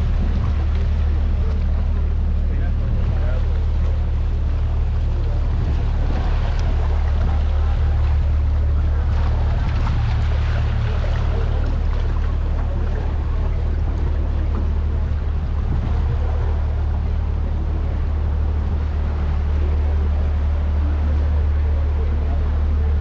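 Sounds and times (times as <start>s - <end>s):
boat motor droning: 0.0s - 23.0s
water rushing along hull: 0.0s - 23.0s.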